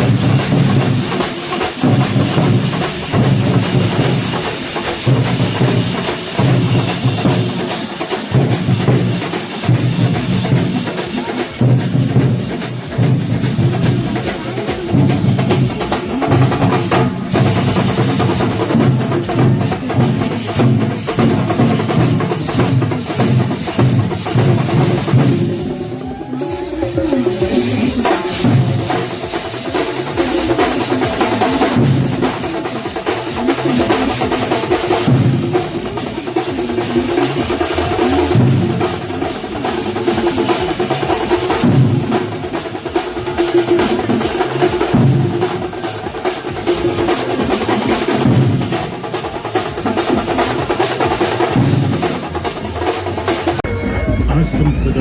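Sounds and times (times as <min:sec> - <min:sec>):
drum ensemble playing: 0:00.0 - 0:55.0.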